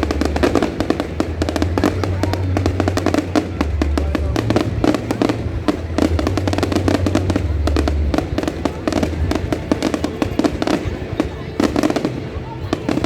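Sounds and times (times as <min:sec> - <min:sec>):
loud music with heavy bass: 0:00.0 - 0:10.7
fireworks bursting and crackling: 0:00.0 - 0:13.0.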